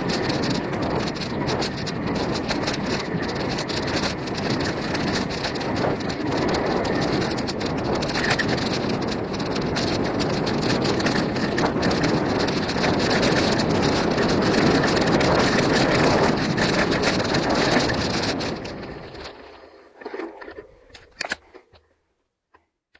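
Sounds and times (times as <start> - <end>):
bike clicks and knocks: 0.0 - 19.4, 20.0 - 21.9
wind on microphone: 0.0 - 19.5.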